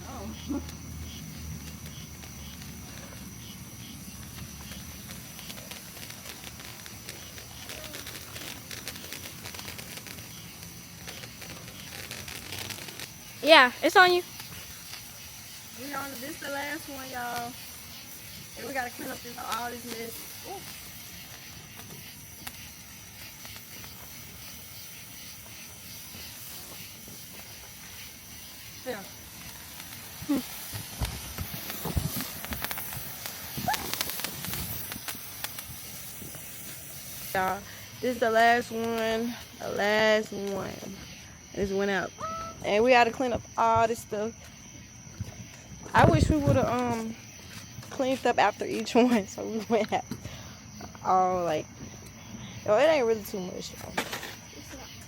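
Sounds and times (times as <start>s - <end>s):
faint crackles: 0.0s - 55.0s
high-pitched insect drone: 0.0s - 55.0s
dull thumps of fireworks: 0.6s - 41.0s, 42.6s - 44.2s, 45.1s - 50.4s.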